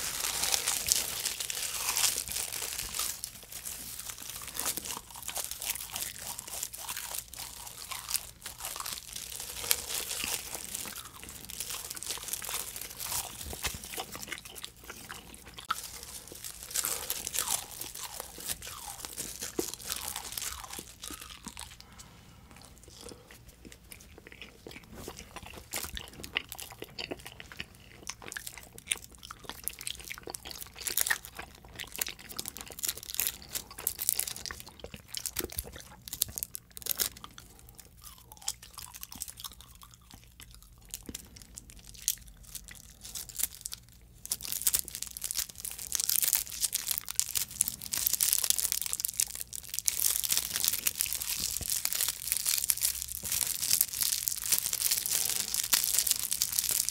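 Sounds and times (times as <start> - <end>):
candy tape crinkling and crunching: 0.0 - 56.9.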